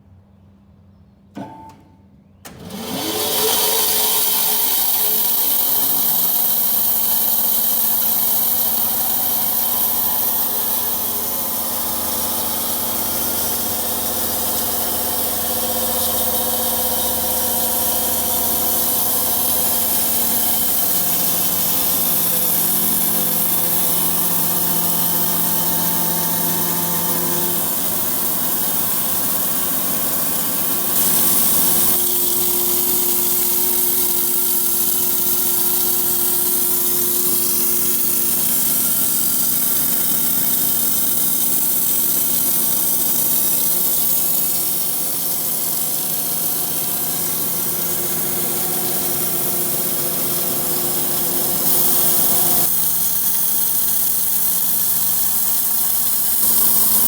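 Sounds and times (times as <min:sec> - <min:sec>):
sawmill saw cutting log: 0:02.5 - 0:57.0.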